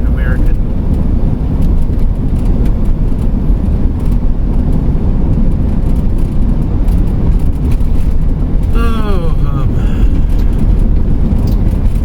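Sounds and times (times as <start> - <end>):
camper van road and engine rumble: 0.0 - 12.0.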